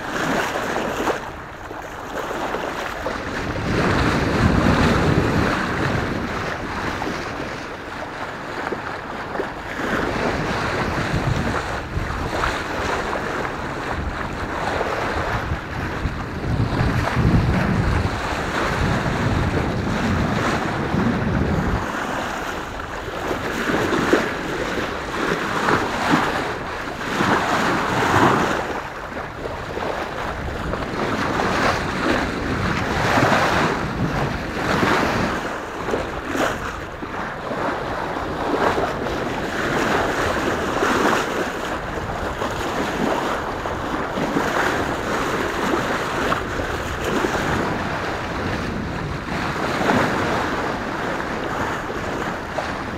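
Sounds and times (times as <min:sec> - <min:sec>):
water rushing along a boat hull: 0:00.0 - 0:52.9
wind buffeting microphone: 0:00.0 - 0:52.9.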